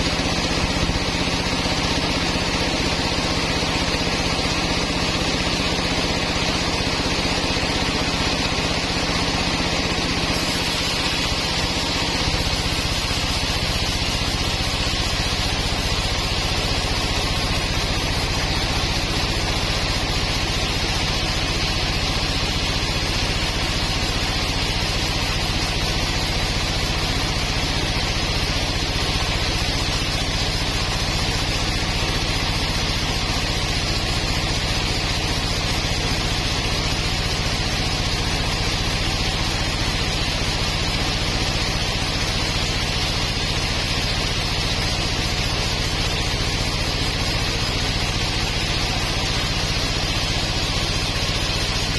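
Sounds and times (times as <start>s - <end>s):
sawmill machinery humming: 0.0s - 51.9s.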